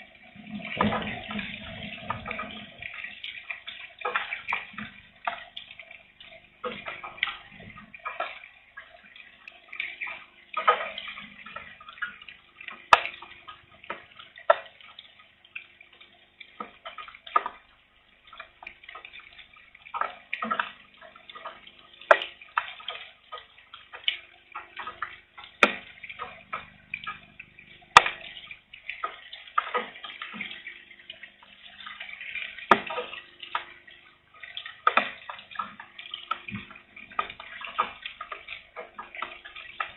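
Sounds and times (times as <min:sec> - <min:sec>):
light rain drops on a surface: 0:00.0 - 0:39.9.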